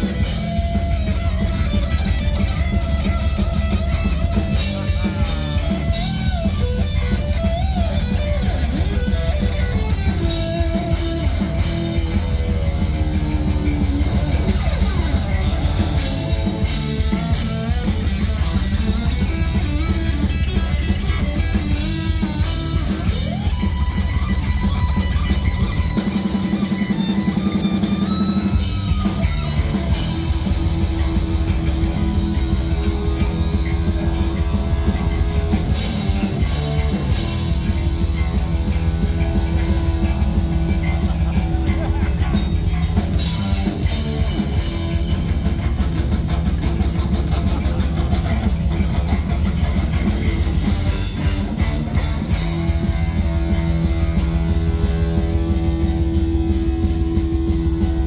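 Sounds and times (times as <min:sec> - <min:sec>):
bass guitar: 0:00.0 - 0:58.0
distorted electric guitar: 0:00.0 - 0:58.0
drum kit: 0:00.0 - 0:58.0.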